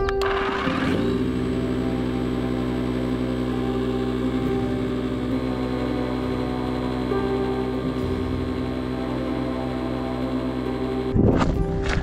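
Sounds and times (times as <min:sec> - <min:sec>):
electric pump humming: 0:00.0 - 0:12.0.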